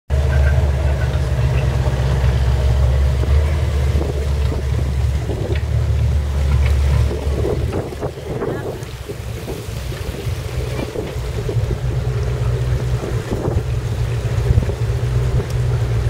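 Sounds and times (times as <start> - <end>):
boat engine drone: 0.1 - 16.0
wind buffeting microphone: 0.1 - 16.0.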